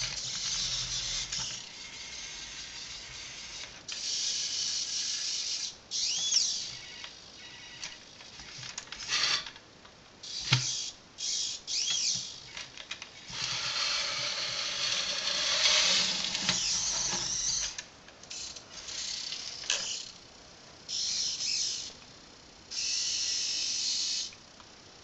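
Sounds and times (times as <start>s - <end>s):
toy motors and gears whirring: 0.0s - 9.6s, 10.2s - 20.2s, 20.9s - 22.0s, 22.7s - 24.5s.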